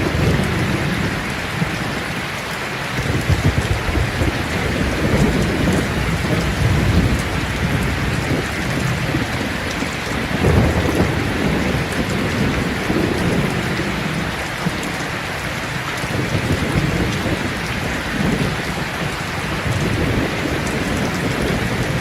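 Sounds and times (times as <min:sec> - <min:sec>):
heavy rain: 0:00.0 - 0:22.0
low thunder rumbling: 0:00.0 - 0:22.0.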